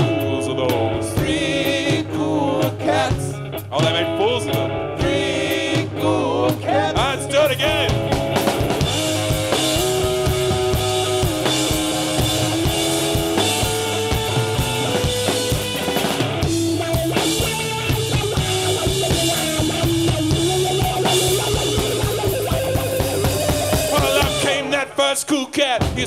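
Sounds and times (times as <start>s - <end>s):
drum kit bass drum and snare: 0.0s - 26.0s
rock band playing: 0.0s - 26.0s.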